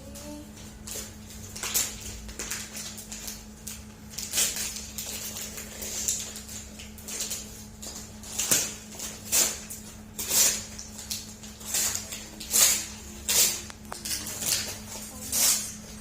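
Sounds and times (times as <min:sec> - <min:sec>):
faint steady hum: 0:00.0 - 0:16.0
wrapping paper tearing: 0:00.2 - 0:16.0.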